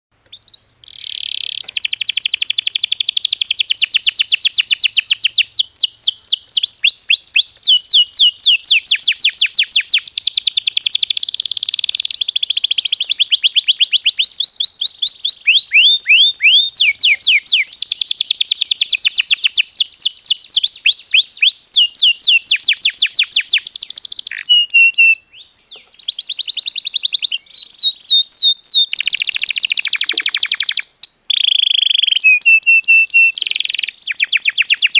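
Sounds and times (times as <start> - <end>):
canary singing trills: 0.3 - 34.9.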